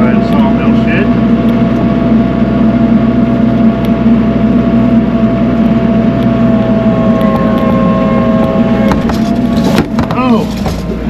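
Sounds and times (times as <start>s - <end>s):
tractor engine drone: 0.0s - 11.0s.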